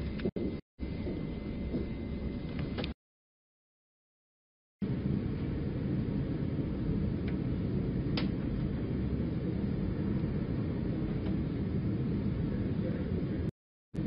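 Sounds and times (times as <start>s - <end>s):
low rumbling room noise: 0.0s - 3.0s, 4.8s - 14.0s.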